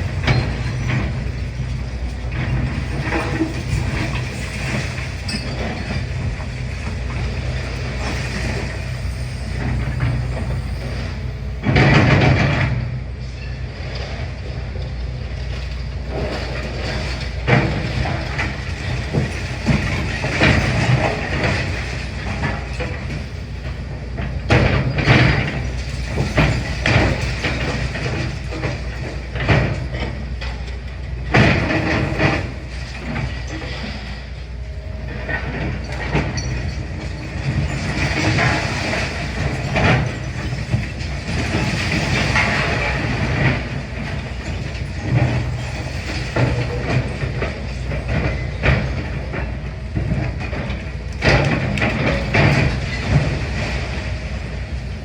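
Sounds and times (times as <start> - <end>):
masonry crunching and clattering: 0.0 - 12.8, 15.5 - 34.3, 35.1 - 55.0
excavator diesel engine running: 0.0 - 55.0.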